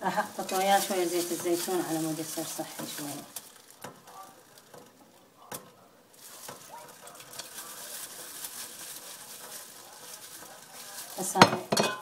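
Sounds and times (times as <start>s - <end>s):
oil sizzling in a pot: 0.0s - 12.0s.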